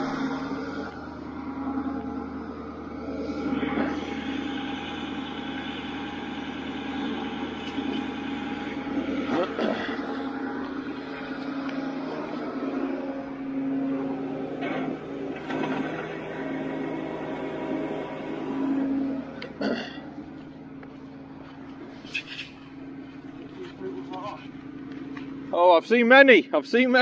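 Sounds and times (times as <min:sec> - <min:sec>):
winch mechanical hum: 0:00.0 - 0:27.0.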